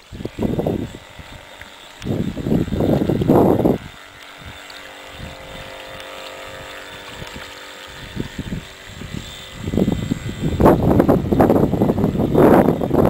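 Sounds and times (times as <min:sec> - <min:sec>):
model boat motor whine: 0:00.0 - 0:13.0
wind buffeting microphone: 0:00.0 - 0:13.0.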